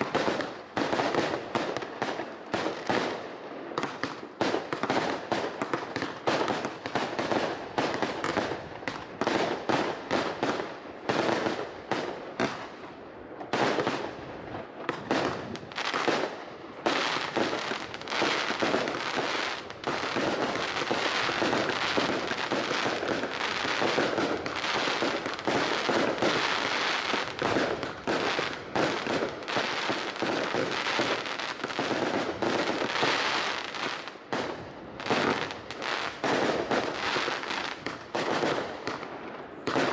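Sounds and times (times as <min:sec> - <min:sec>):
fireworks bursts and bangs: 0:00.0 - 0:39.9.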